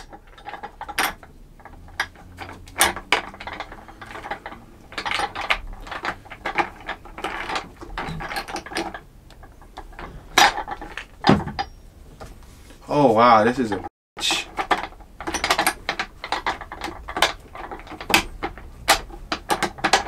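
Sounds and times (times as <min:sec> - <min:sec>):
plastic chair parts clicking and rattling: 0:00.0 - 0:12.3, 0:13.5 - 0:20.0.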